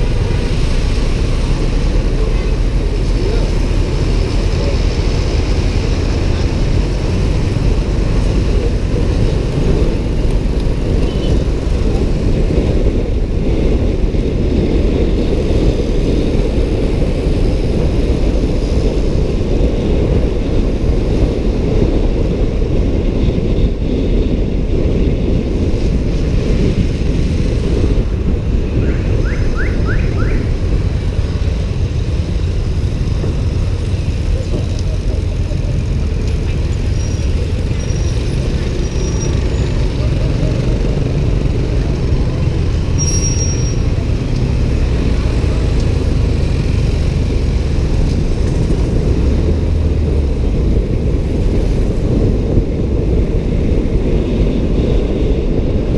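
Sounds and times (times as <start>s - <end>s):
motorbike riding noise: 0.0s - 55.9s.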